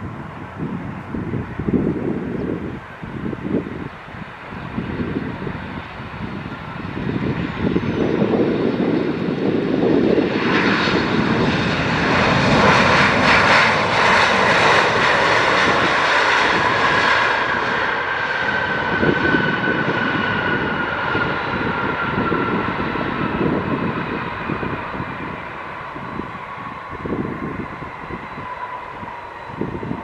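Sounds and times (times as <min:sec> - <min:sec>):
jet engines passing: 0:00.0 - 0:30.0.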